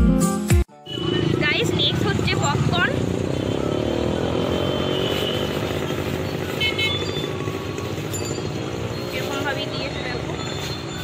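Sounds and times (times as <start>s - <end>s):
street traffic: 0.8s - 11.0s
motorcycle engine running: 0.9s - 10.6s.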